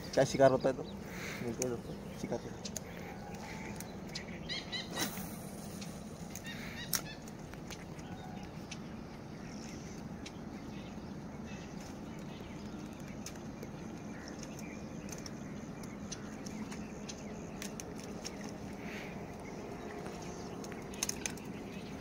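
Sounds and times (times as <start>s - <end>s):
faint scattered clicks: 0.0s - 4.4s, 5.2s - 8.9s, 11.7s - 22.0s
distant bird calls: 0.0s - 22.0s
steady low rumble: 0.0s - 22.0s.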